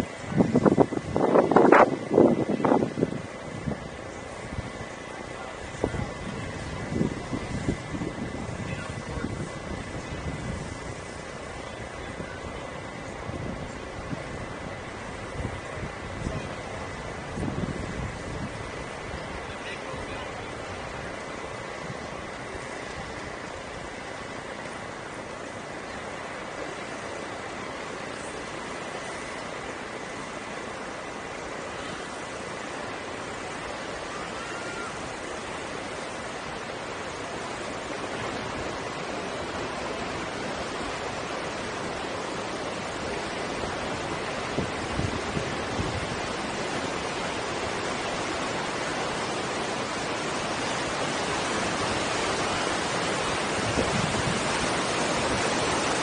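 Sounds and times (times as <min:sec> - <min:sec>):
river water rushing and churning: 0:00.0 - 0:56.0.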